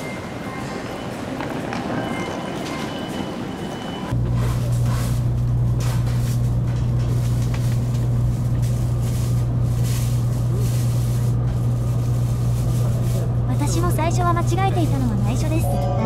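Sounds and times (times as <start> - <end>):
train cabin hum: 0.0 - 16.0.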